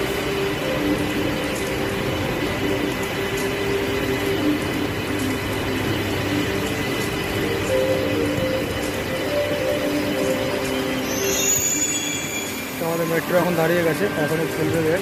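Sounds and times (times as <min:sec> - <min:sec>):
low train whine: 0:00.0 - 0:15.0
train rumbling and braking: 0:00.0 - 0:15.0.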